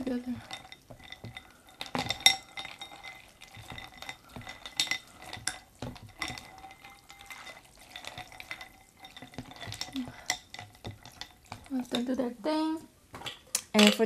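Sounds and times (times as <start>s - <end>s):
broth sloshing: 0.0s - 12.2s
chopsticks clinking on ceramic bowl: 0.0s - 12.2s
chopsticks stirring noodles: 0.0s - 12.4s.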